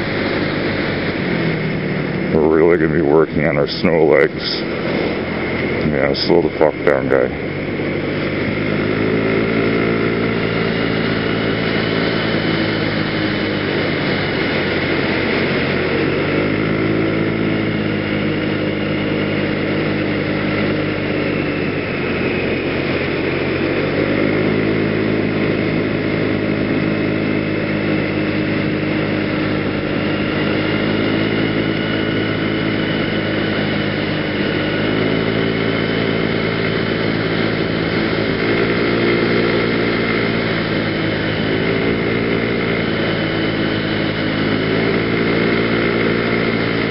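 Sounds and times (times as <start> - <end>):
scooter engine running: 0.0 - 46.9.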